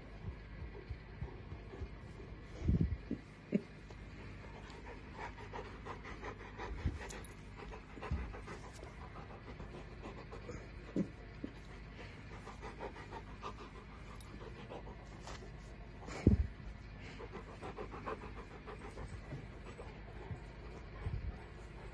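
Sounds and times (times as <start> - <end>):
dog panting: 0.0 - 21.9.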